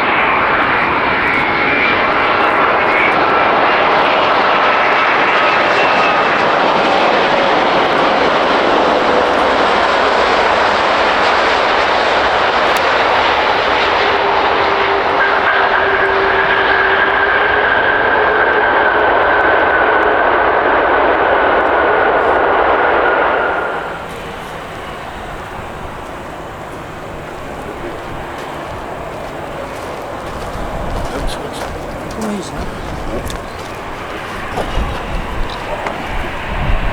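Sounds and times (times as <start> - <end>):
jet airliner engine roar: 0.0 - 36.9.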